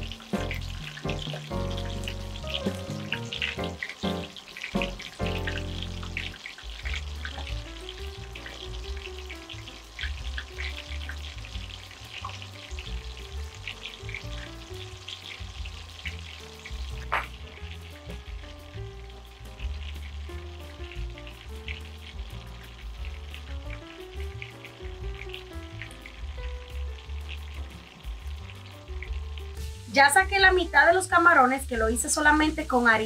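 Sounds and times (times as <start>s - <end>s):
shrimp deep-frying in oil: 0.0s - 33.0s.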